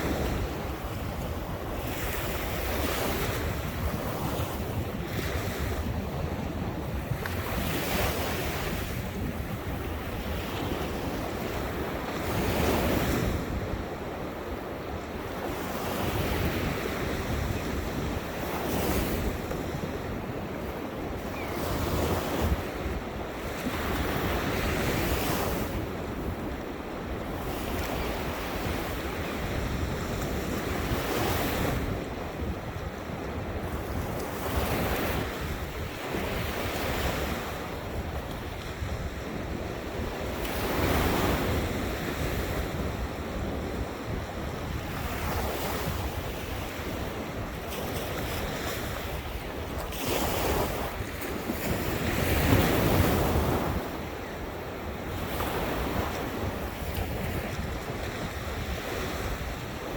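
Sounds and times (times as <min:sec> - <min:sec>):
ocean waves breaking on shore: 0:00.0 - 0:59.9
wind buffeting microphone: 0:00.0 - 0:59.9.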